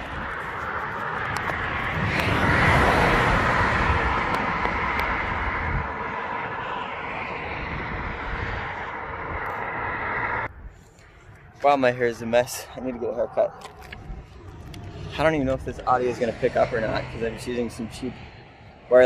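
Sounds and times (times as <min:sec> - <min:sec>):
passing cars rushing: 0:00.0 - 0:10.5, 0:14.0 - 0:19.0.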